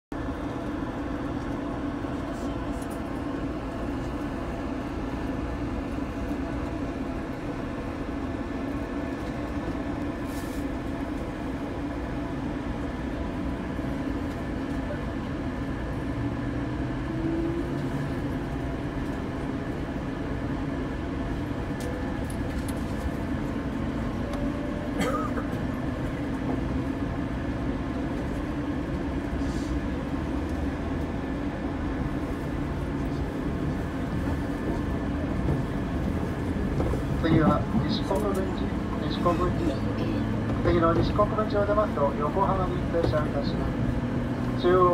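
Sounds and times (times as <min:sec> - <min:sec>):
train motors and wheels rumbling: 0:00.1 - 0:44.9.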